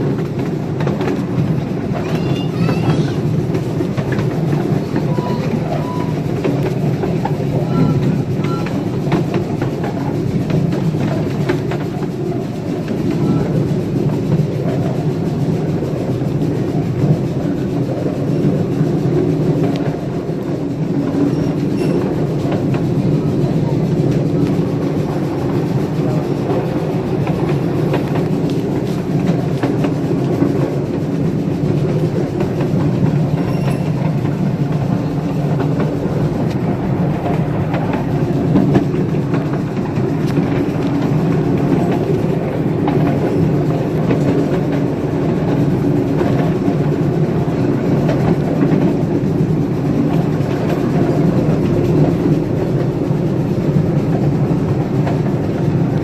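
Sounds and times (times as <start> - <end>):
train rumble: 0.0 - 56.0
wheels clattering over rail joints: 0.0 - 56.0.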